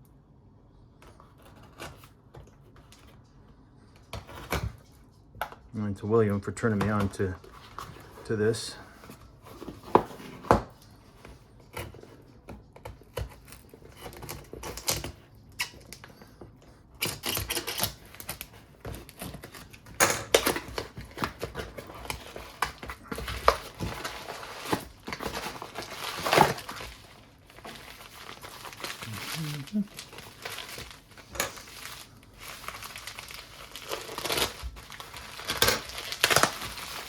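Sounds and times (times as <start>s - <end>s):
cardboard packaging scraping: 1.1s - 2.2s, 6.6s - 37.0s
packaging rustling: 6.6s - 37.0s.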